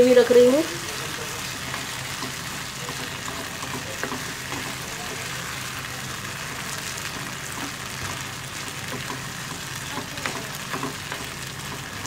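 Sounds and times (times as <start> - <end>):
chicken sizzling in oil: 0.0 - 12.0
spatula stirring and scraping: 0.7 - 12.0.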